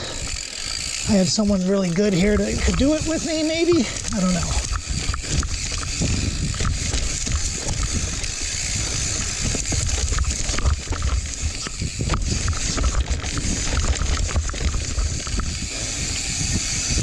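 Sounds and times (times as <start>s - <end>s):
bike rattling: 0.0s - 17.0s
tyres crunching on loose dirt: 0.0s - 17.0s
wind rumbling on microphone: 0.0s - 17.0s.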